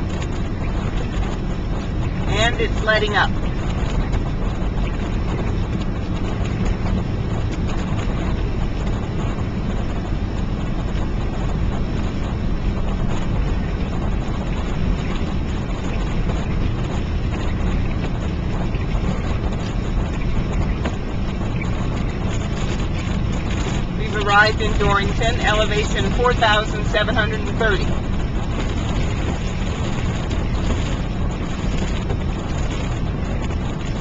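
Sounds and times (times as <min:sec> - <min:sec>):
car road noise rumble: 0:00.0 - 0:34.0.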